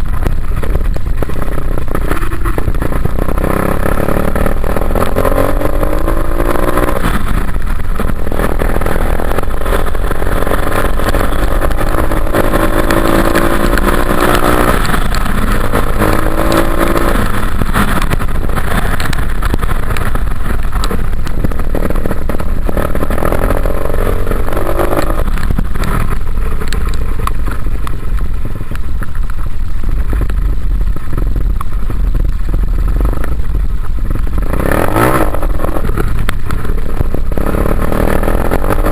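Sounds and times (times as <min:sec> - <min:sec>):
dirt bike engine revving: 0:00.0 - 0:27.6, 0:34.1 - 0:38.9
heavy low rumble: 0:00.0 - 0:38.9.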